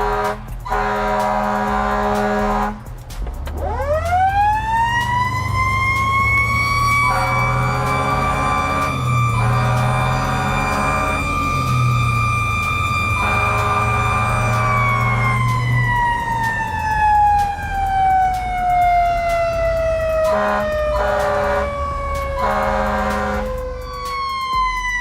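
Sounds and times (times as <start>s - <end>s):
fire truck siren wailing: 0.0s - 2.9s, 3.5s - 25.0s
horn blasts: 0.0s - 2.9s, 5.3s - 24.2s.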